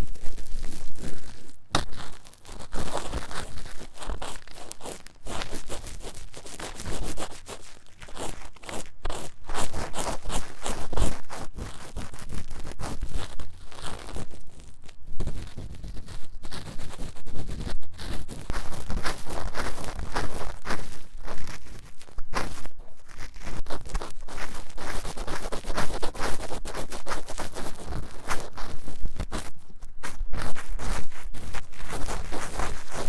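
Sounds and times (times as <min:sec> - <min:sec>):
scratching in microphone ear: 0:00.0 - 0:33.0.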